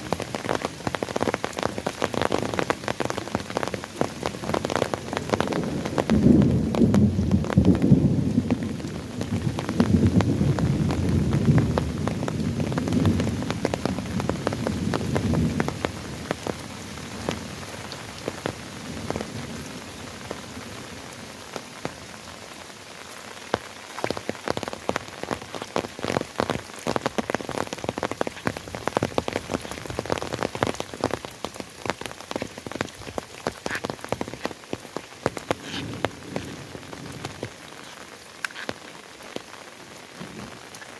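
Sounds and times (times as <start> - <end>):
raindrops ticking on a surface: 0.0 - 40.9
rainfall hissing: 0.0 - 40.9.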